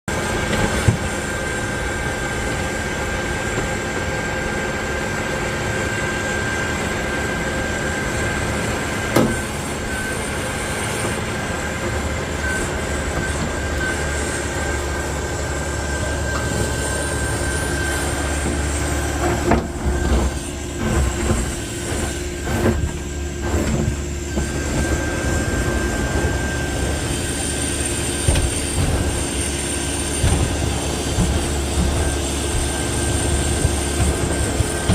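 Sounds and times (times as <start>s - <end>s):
diesel engine with high whine: 0.0s - 34.9s.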